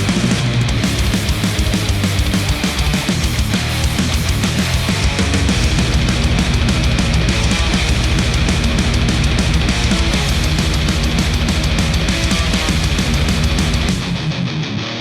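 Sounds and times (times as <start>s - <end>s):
heavy rock music through headphones: 0.0s - 15.0s.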